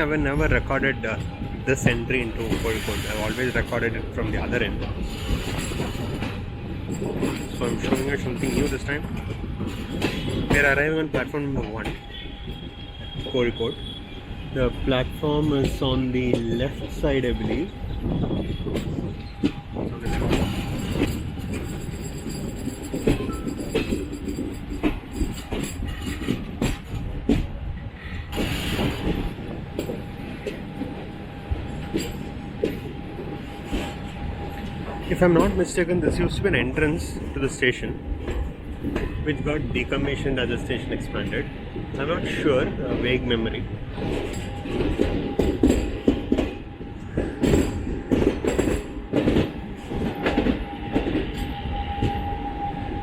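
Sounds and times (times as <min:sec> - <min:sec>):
train wheels clattering over rails: 0:00.0 - 0:14.0, 0:14.7 - 0:53.0.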